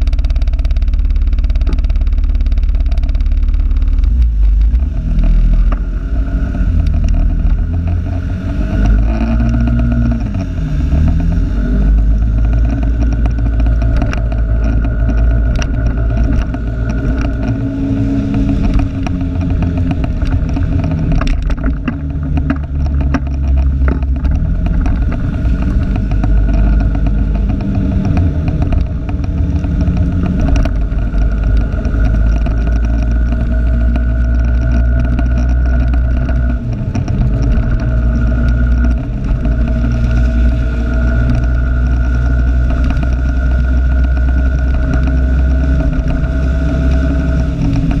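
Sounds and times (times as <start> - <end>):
steady high whine: 0.0 - 48.0
vehicle engine running: 0.0 - 48.0.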